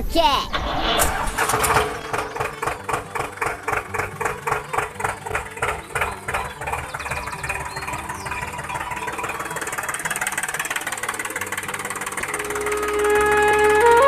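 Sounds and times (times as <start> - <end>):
tractor engine chugging: 1.4 - 14.0.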